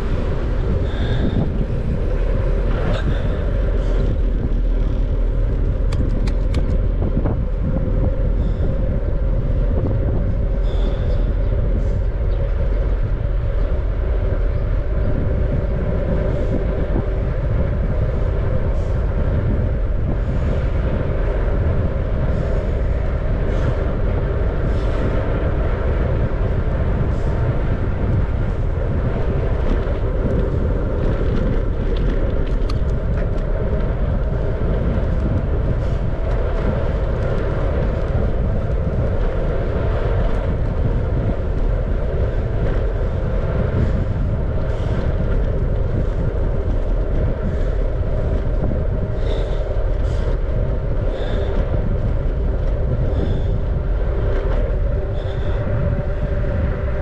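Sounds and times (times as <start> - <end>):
bicycle tyre and road noise: 0.0 - 57.0
wind rumble on microphone: 0.0 - 57.0.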